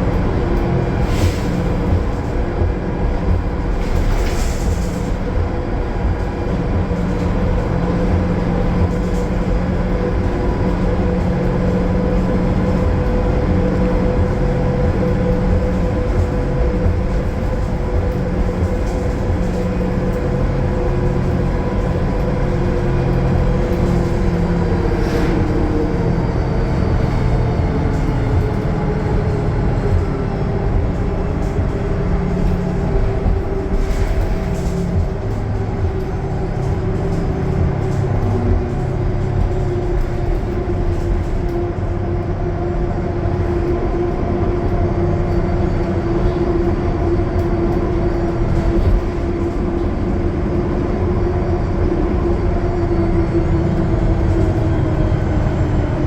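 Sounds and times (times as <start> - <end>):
bus engine drone: 0.0 - 56.0
road rumble: 0.0 - 56.0.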